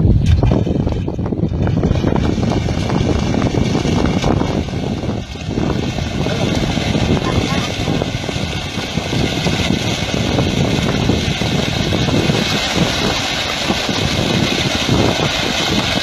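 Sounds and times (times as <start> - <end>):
boat motor idling: 0.0 - 16.0.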